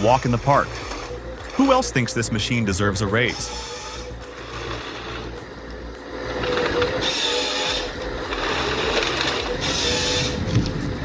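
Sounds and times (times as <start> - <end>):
woodworking machine whining: 0.0 - 11.0.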